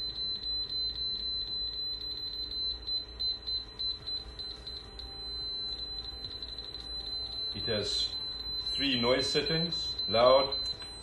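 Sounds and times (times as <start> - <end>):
laser receiver beeping: 0.0 - 11.0.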